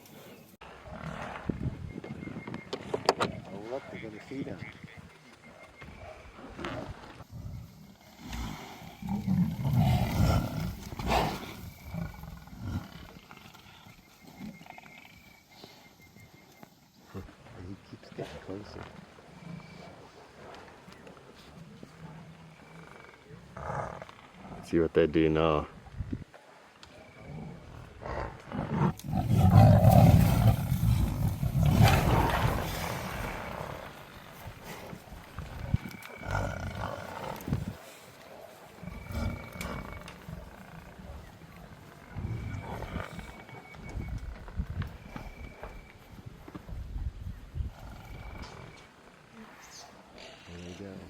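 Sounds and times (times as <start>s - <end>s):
lions growling: 0.1s - 15.6s, 17.9s - 24.9s, 27.0s - 45.9s, 47.6s - 51.0s.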